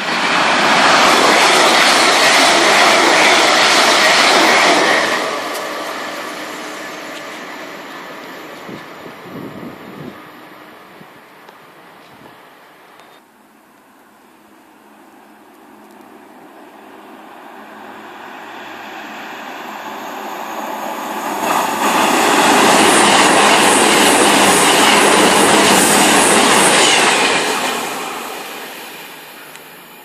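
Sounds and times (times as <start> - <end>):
train passing at speed: 0.0 - 30.0.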